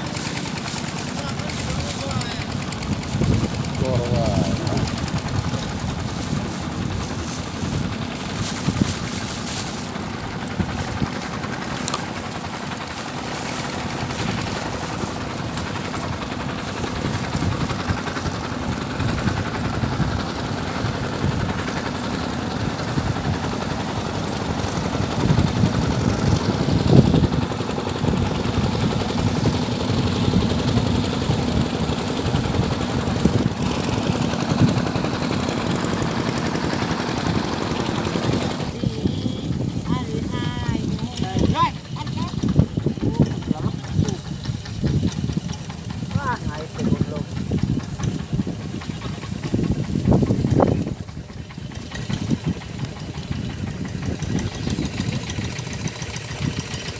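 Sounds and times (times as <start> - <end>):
boat motor pulsing: 0.0 - 56.9.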